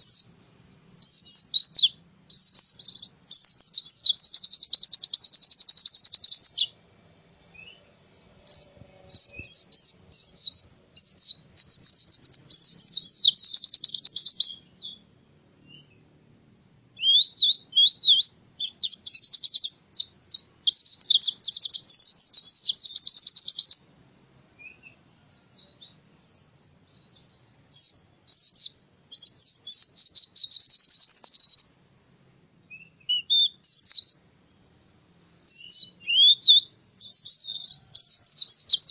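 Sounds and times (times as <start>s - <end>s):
bird singing high trills: 0.0s - 32.0s, 32.6s - 38.9s.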